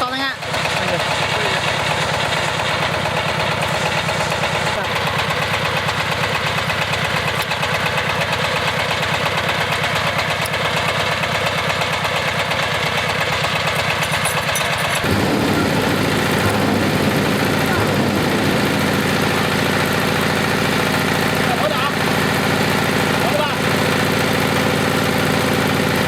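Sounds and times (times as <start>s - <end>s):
drilling rig engine running: 0.0s - 26.0s.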